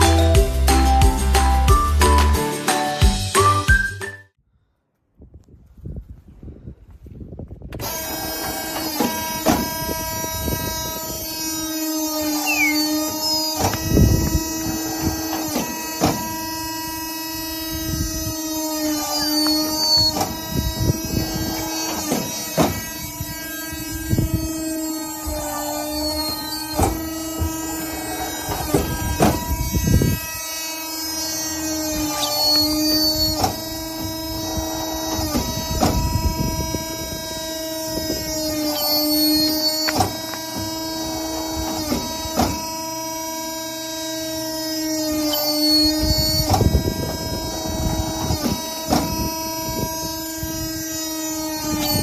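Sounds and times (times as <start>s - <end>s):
machine droning whine: 0.0s - 2.6s, 7.7s - 52.0s
motor humming: 7.7s - 52.0s.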